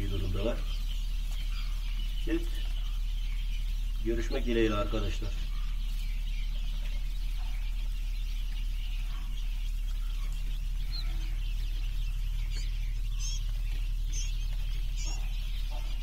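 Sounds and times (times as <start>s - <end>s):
quail chicks peeping: 0.0s - 16.0s
steady low hum: 0.0s - 16.0s.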